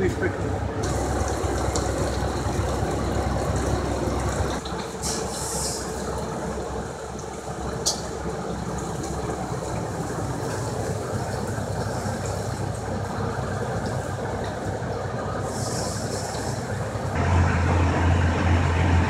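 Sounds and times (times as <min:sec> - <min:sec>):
fire engine idling: 0:00.0 - 0:19.0.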